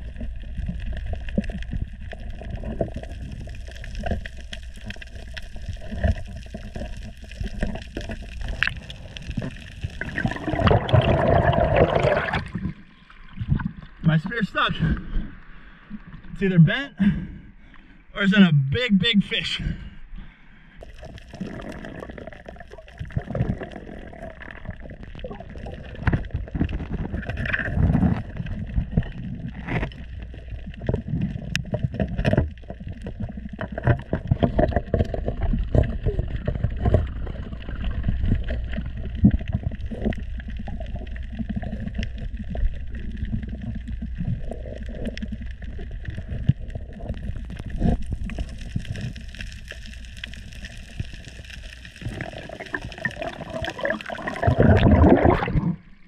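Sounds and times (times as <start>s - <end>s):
muffled underwater rumble: 0.0s - 17.7s, 19.6s - 56.0s.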